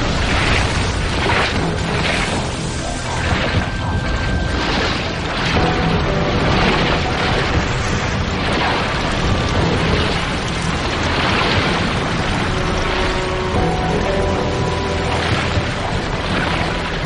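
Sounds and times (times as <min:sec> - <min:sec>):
faint background music: 0:00.0 - 0:17.0
surging water and breaking ice: 0:00.0 - 0:17.0.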